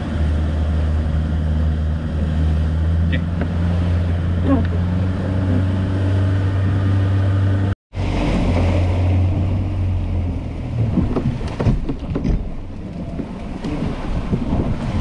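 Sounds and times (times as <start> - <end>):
outboard motor drone: 0.0 - 15.0
water rushing past hull: 0.0 - 15.0
wind buffeting microphone: 0.0 - 15.0.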